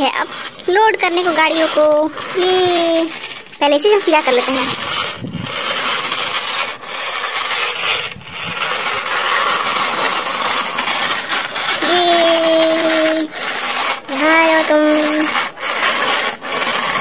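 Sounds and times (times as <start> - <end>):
plastic wheels rolling on concrete: 0.0 - 17.0.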